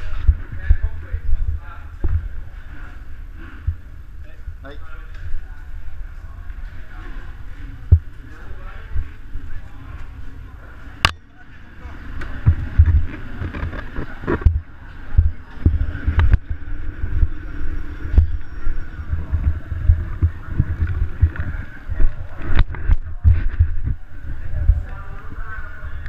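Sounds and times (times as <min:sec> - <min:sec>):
low rumbles on microphone: 0:00.0 - 0:26.0.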